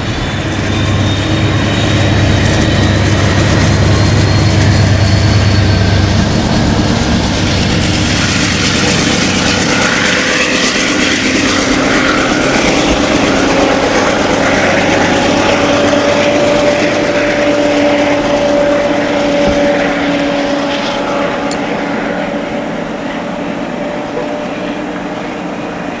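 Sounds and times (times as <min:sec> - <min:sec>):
diesel locomotive rushing past: 0:00.0 - 0:26.0.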